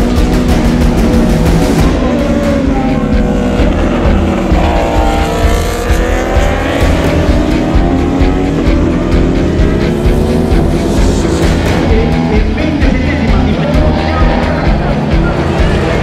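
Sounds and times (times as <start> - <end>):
motorbike engines revving high: 0.0 - 16.0.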